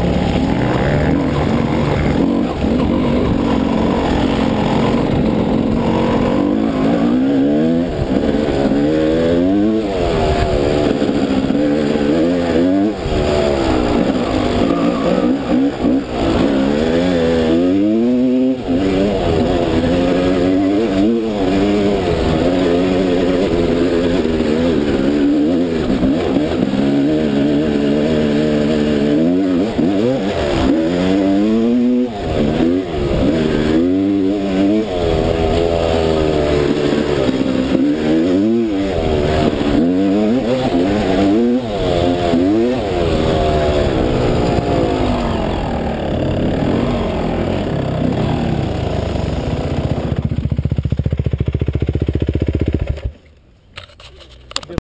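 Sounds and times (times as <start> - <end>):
motocross bike engine revving: 0.0 - 53.2.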